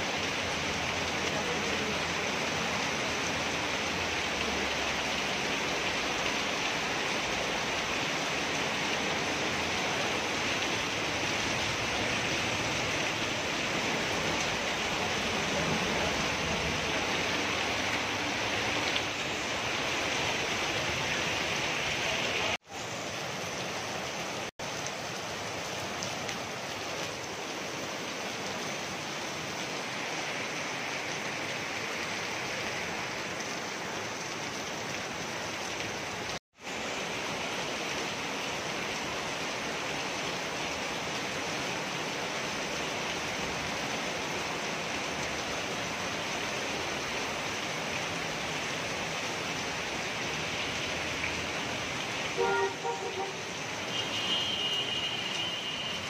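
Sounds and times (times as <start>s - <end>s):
heavy rain on a flooded street: 0.0s - 56.0s.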